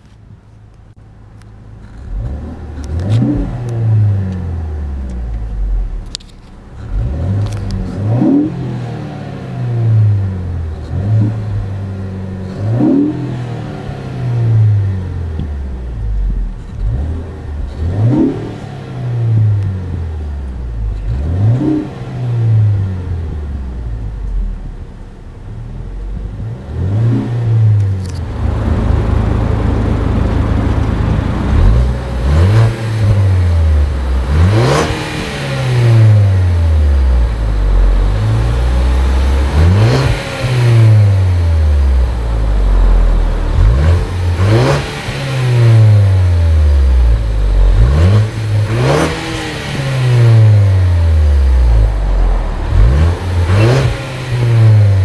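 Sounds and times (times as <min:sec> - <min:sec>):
car engine idling: 0:00.0 - 0:55.0
car engine revving: 0:01.0 - 0:55.0.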